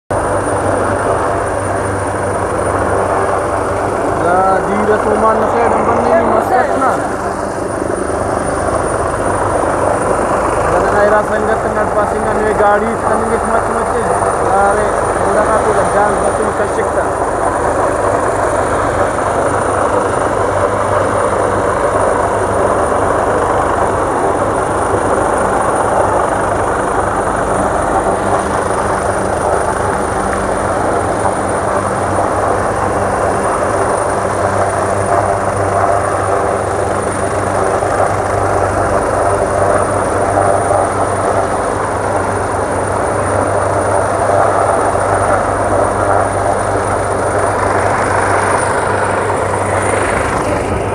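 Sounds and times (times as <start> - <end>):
engine running loudly: 0.1 - 50.9.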